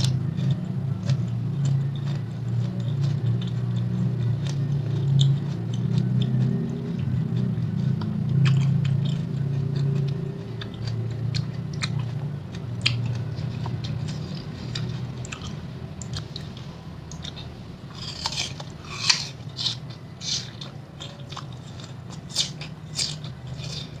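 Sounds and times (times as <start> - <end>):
chewing crisp fruit: 0.0 - 24.0
low hum: 0.0 - 24.0.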